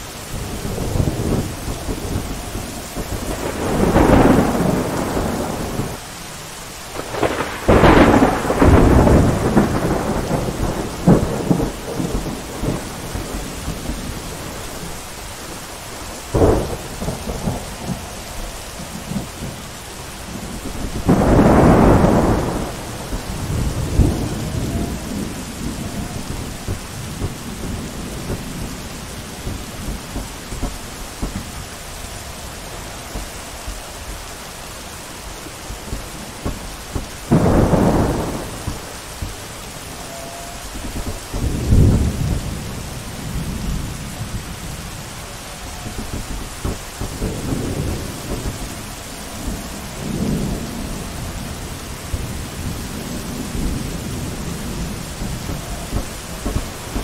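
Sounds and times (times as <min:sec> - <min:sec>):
sharp thunder crack: 0:00.0 - 0:06.0, 0:06.9 - 0:15.0, 0:16.2 - 0:34.2, 0:35.5 - 0:44.7, 0:45.7 - 0:57.0
thunder rolling: 0:00.0 - 0:06.1, 0:06.9 - 0:57.0
steady rain: 0:00.0 - 0:57.0.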